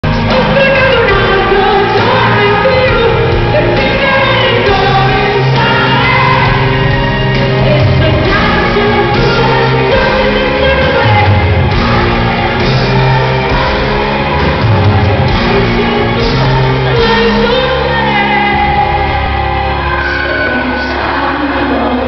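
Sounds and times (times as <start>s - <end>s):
live pop band playing: 0.0s - 22.0s
woman singing into a microphone: 0.3s - 11.6s, 15.2s - 22.0s.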